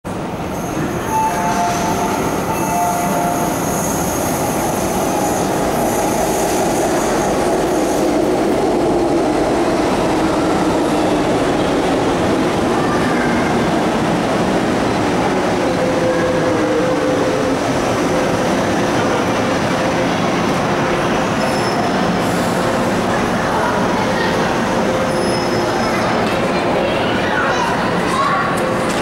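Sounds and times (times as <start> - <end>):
train wheels rumbling on rail: 0.1 - 29.0.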